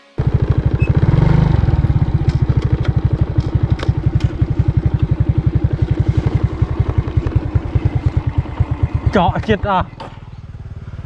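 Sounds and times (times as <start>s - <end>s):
small engine running: 0.2s - 11.0s.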